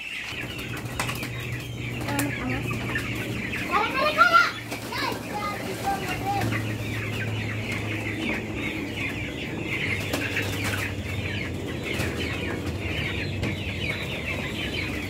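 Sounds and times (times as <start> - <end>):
chicks peeping: 0.0 - 15.0
low steady hum: 0.3 - 15.0.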